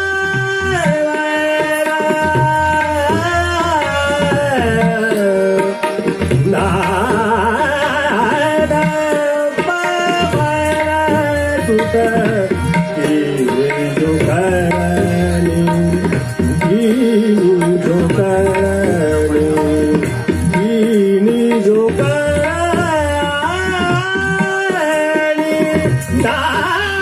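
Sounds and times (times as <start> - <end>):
harmonium: 0.0 - 27.0
man singing ornamented melody: 0.0 - 27.0
tabla strokes: 0.0 - 27.0.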